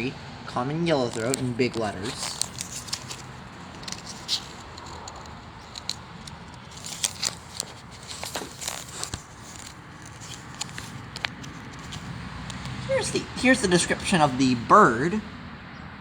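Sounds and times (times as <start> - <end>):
cardboard tag handling: 1.0 - 14.4.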